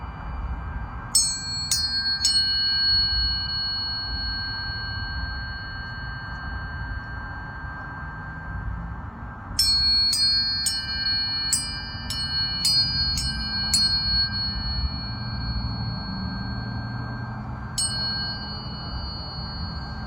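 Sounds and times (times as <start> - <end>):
tuning forks ringing: 0.0 - 20.0.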